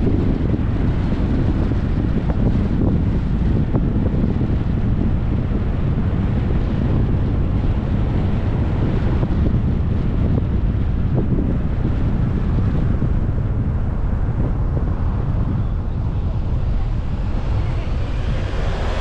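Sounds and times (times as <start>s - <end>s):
car tyres rumbling on road: 0.0s - 19.0s
wind buffeting microphone: 0.0s - 19.0s.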